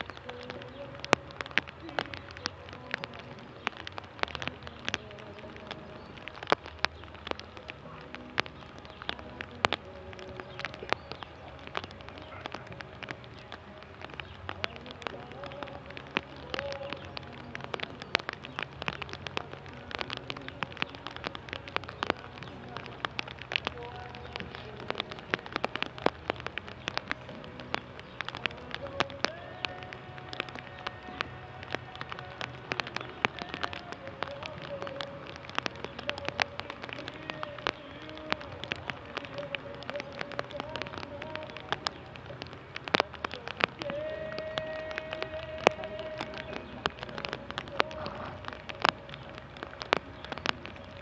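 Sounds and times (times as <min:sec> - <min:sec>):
rain falling: 0:00.0 - 0:51.0
raindrops tapping sharply: 0:00.0 - 0:51.0.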